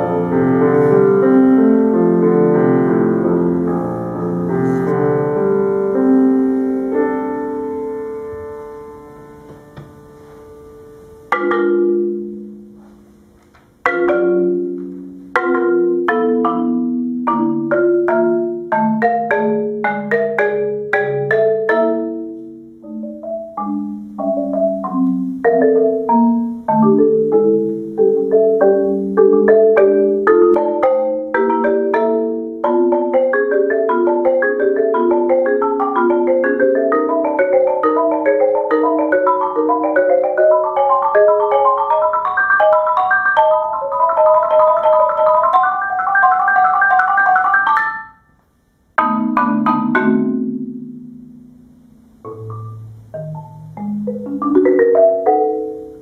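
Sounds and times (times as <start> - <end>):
marimba played with mallets: 0.0 - 48.4, 49.0 - 56.0.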